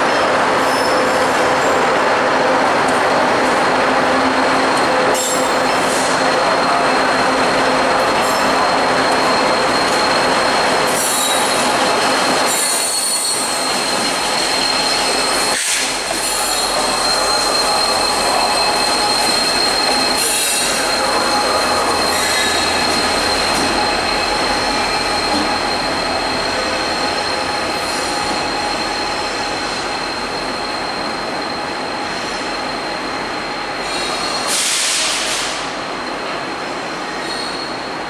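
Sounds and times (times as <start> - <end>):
train rolling noise: 0.0 - 38.0
train wheels squealing on rails: 0.0 - 38.0.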